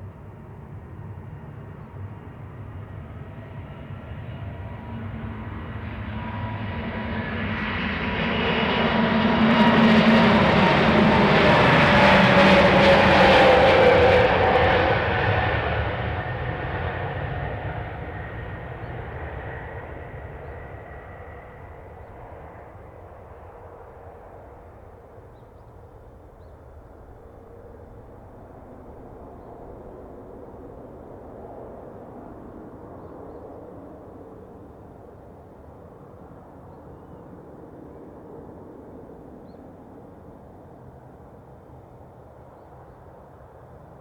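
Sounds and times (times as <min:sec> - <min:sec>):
jet plane taking off overhead: 0:00.0 - 0:44.0.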